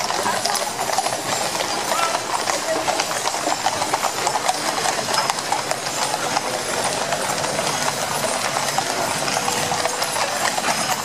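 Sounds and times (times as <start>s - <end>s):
horses' hooves on tarmac: 0.0s - 11.0s
iron-tyred wheels rolling: 0.0s - 11.0s.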